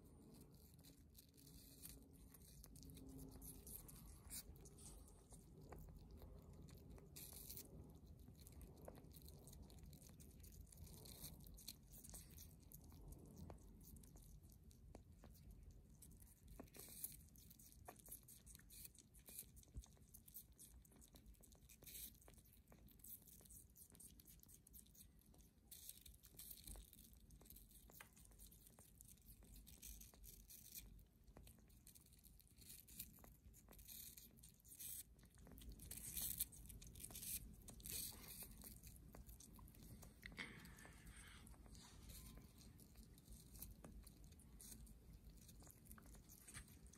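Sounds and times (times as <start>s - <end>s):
sugar gliders chewing fruit: 0.0s - 46.9s.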